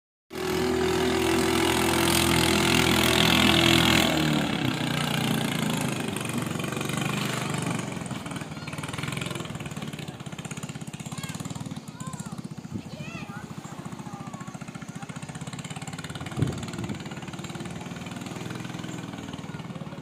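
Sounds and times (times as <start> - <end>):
speedboat engine passing: 0.3 - 20.0.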